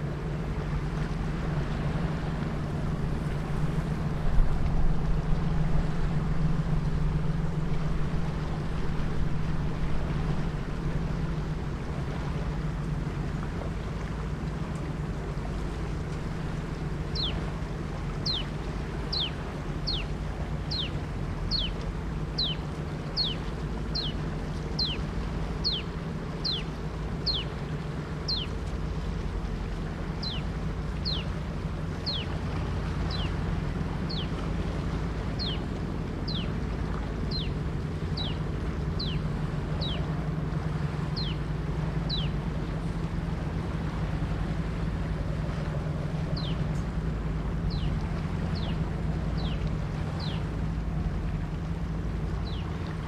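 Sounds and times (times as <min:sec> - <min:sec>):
boat engine drone: 0:00.0 - 0:53.0.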